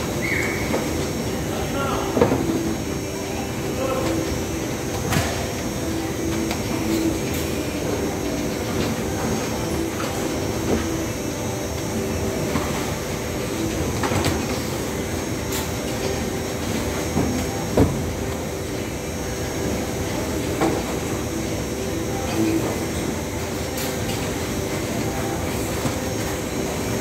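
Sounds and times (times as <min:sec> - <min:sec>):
conveyor belt rumble and hum: 0:00.0 - 0:27.0.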